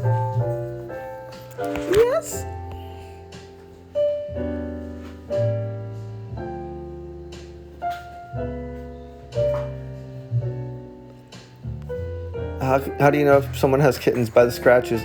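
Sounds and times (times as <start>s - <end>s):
jazz piano chords: 0.0s - 15.0s.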